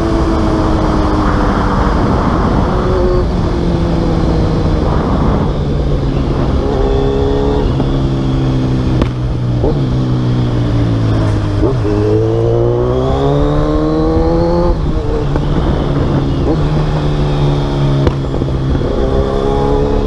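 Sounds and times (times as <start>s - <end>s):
motorcycle engine riding: 0.0s - 20.0s.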